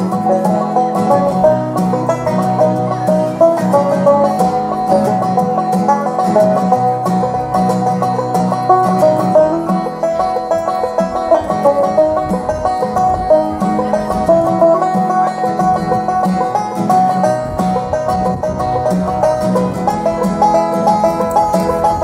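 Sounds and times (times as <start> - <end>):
acoustic guitar rhythm: 0.0 - 22.0
banjo picking: 0.0 - 22.0.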